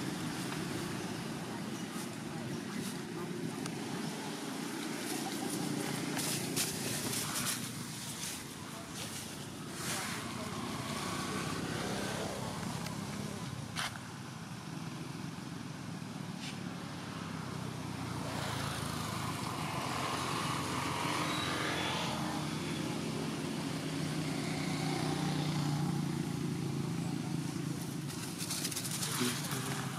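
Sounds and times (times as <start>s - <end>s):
vehicle engine humming: 0.0s - 29.9s.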